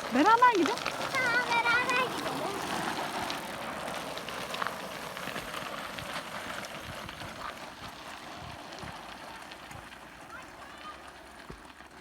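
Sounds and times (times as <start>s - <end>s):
bicycle tyres rolling over rough ground: 0.0s - 12.0s.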